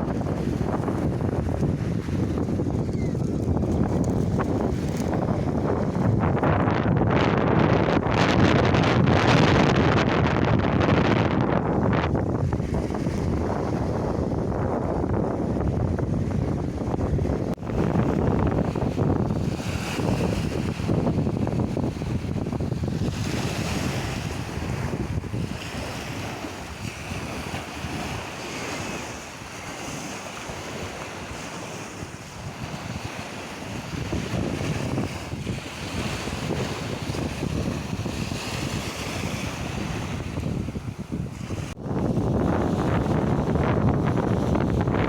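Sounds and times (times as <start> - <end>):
sea waves washing ashore: 0.0 - 45.0
wind buffeting microphone: 0.0 - 45.0.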